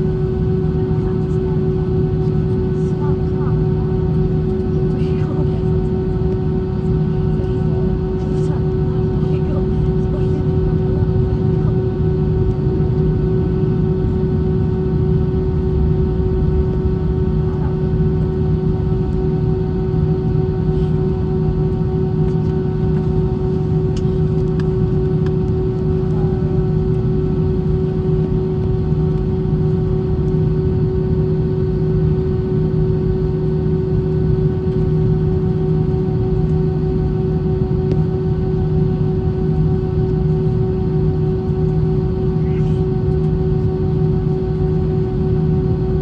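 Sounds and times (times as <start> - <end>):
airliner cabin engine drone: 0.0 - 46.0.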